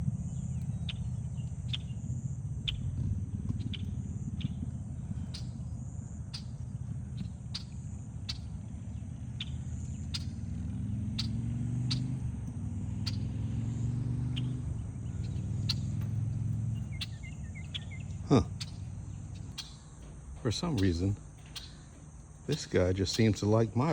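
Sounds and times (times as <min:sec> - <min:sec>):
insects chirring: 0:00.0 - 0:23.9
sharp ticks: 0:00.3 - 0:23.9.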